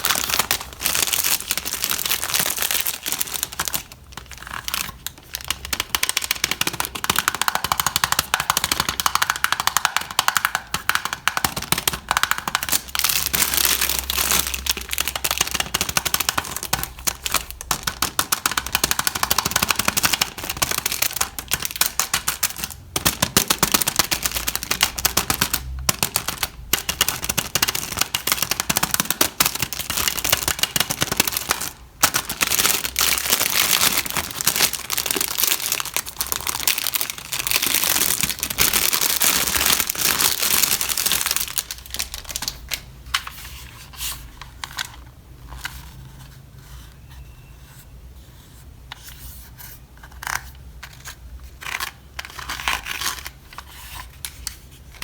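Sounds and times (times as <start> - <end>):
packaging crinkling and tearing: 0.0 - 43.5, 50.2 - 55.0.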